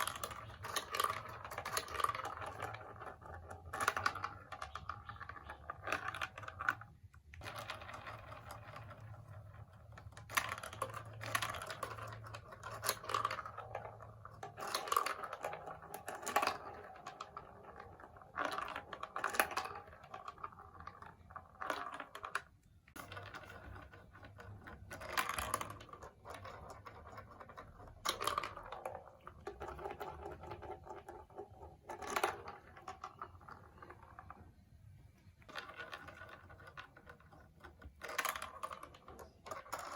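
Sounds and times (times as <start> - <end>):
plastic pieces clicking and clattering: 0.0 - 34.6, 35.3 - 39.9.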